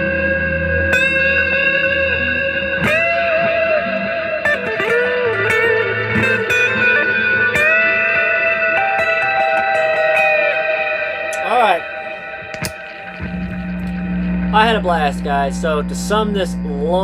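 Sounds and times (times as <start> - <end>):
bent electric guitar notes: 0.0 - 17.0
electric guitar chords ringing: 0.0 - 17.0.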